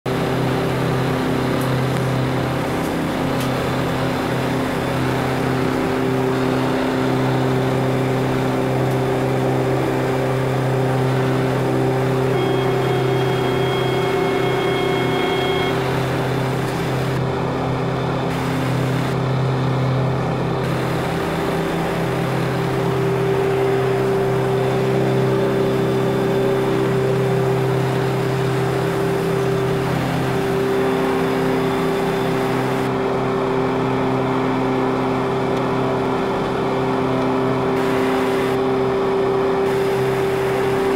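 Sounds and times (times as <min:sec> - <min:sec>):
boat engine droning: 0:00.1 - 0:40.9.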